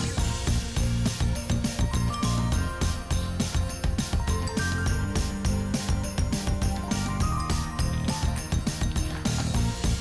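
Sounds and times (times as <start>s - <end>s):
upbeat music with jingling percussion: 0.0s - 10.0s.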